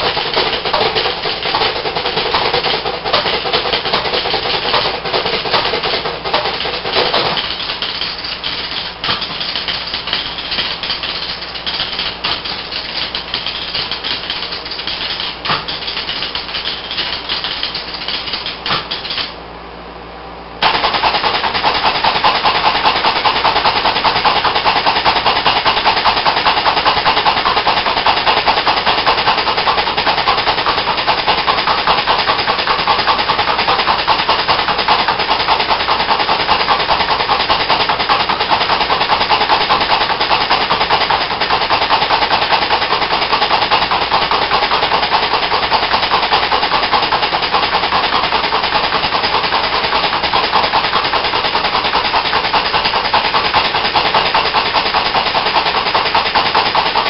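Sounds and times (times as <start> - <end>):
fast mechanical motor chatter: 0.0 - 19.4, 20.6 - 57.0
pinball machine relays clicking: 0.0 - 19.4, 20.6 - 57.0.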